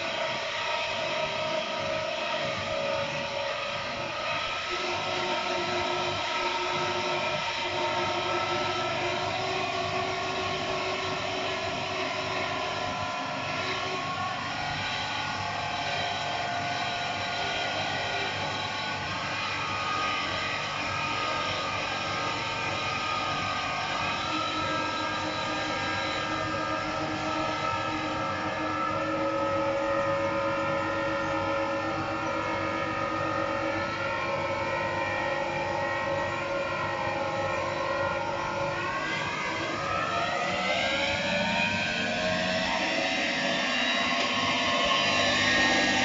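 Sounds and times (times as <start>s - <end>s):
washing machine motor whining: 0.0s - 46.0s.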